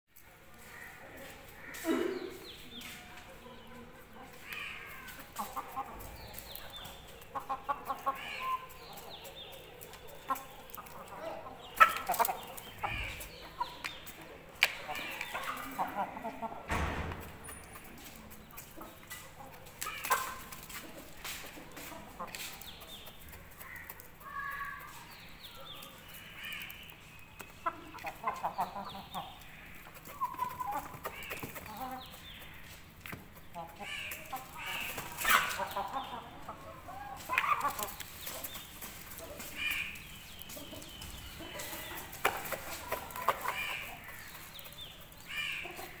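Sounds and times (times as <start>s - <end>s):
chicks peeping and clucking: 0.2s - 46.0s
beaks pecking grain: 2.4s - 46.0s.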